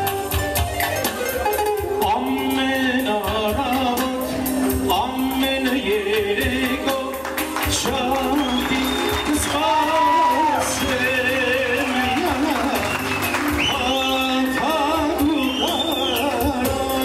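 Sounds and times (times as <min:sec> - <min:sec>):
percussion: 0:00.0 - 0:17.0
person singing: 0:01.2 - 0:17.0.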